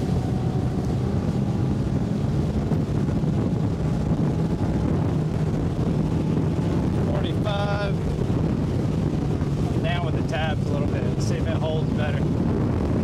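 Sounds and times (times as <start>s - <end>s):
outboard motor drone: 0.0s - 13.0s
wind over microphone: 0.0s - 13.0s.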